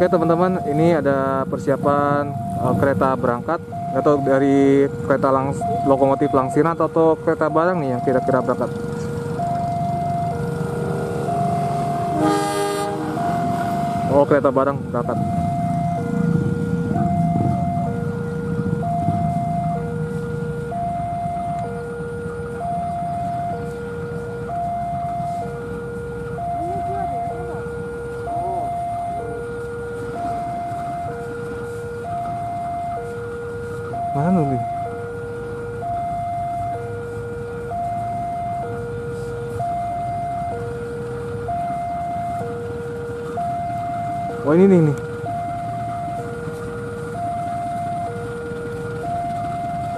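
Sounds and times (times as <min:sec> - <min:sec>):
diesel locomotive rumble: 0:00.0 - 0:49.9
level crossing two-tone alarm: 0:00.0 - 0:49.9.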